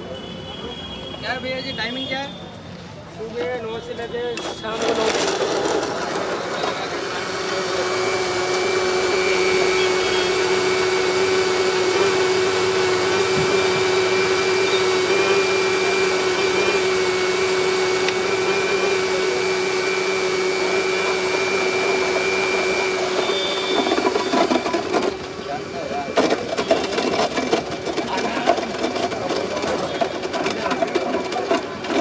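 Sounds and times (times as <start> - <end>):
blender running: 4.4 - 32.0.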